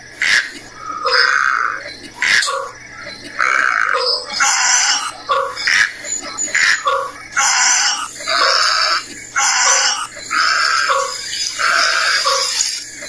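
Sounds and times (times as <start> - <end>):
bird giving harsh grating calls: 0.0 - 13.0.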